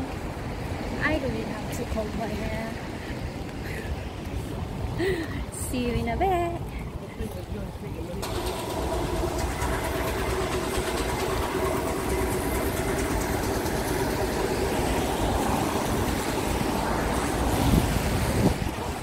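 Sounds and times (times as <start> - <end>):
outdoor noise: 0.0 - 19.0
vehicle engine humming: 0.0 - 19.0.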